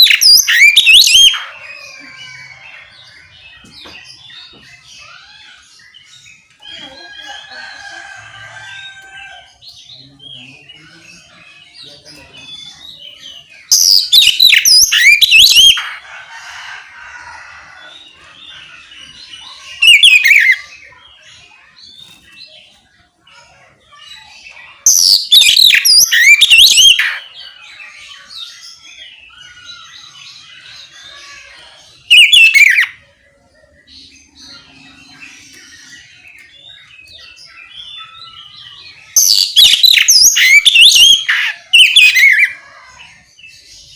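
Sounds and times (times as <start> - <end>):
faint bird chirps and calls: 0.0 - 43.9.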